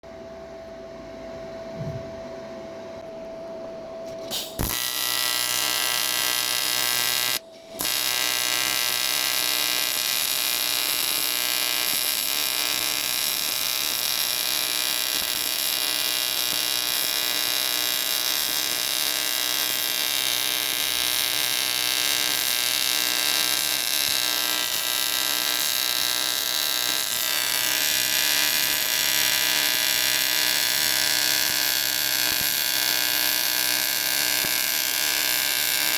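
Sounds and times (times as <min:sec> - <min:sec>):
welding arc buzzing: 0:04.1 - 0:35.9.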